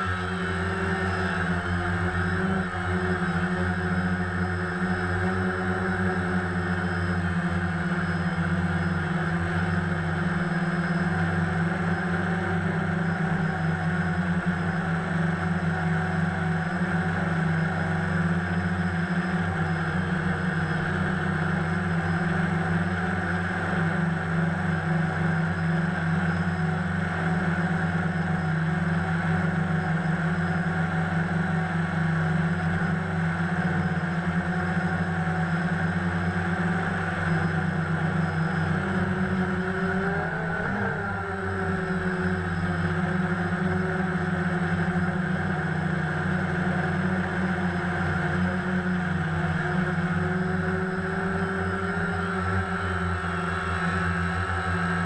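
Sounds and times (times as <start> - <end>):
drone motors and propellers humming: 0.0 - 55.0.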